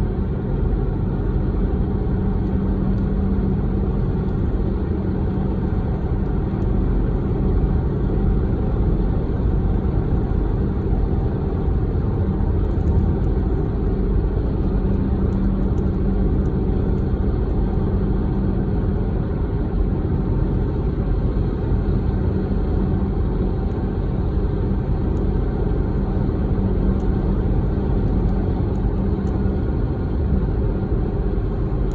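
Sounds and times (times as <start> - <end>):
car road and engine rumble: 0.0 - 31.9.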